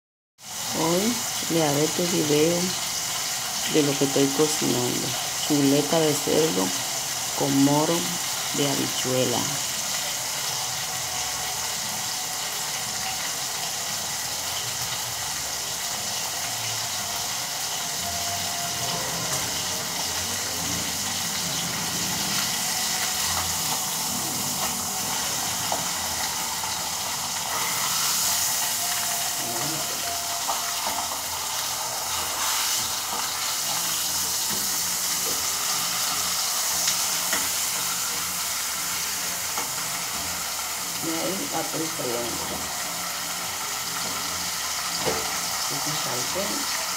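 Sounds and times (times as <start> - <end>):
meat sizzling in a skillet: 0.4 - 46.9.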